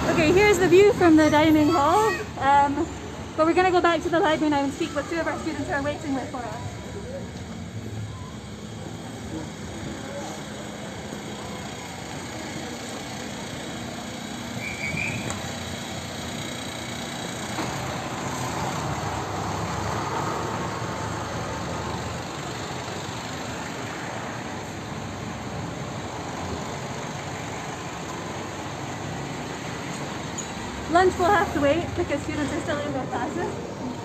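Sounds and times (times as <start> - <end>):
street traffic: 0.0 - 34.0.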